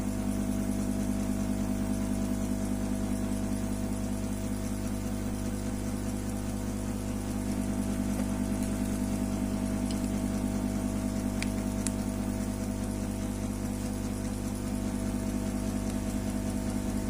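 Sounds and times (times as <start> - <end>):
mechanical hum with flutter: 0.0 - 17.0.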